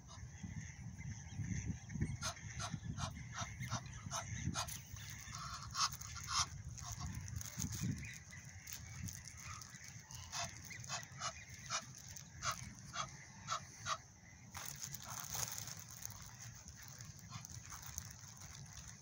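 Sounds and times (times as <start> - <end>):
low wind rumble on microphone: 0.0 - 19.0
geese honking: 2.2 - 19.0.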